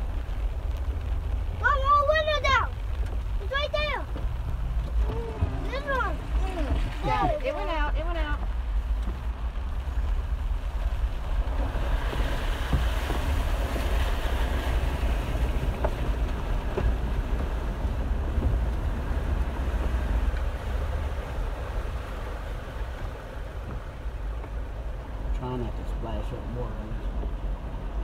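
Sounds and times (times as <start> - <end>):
vehicle engine rumble: 0.0 - 28.0
water spraying from tyres: 0.0 - 28.0.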